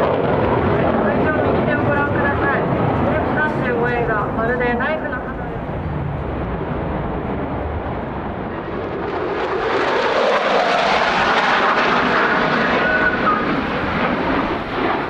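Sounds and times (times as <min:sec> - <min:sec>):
fighter jet passing overhead: 0:00.0 - 0:15.0.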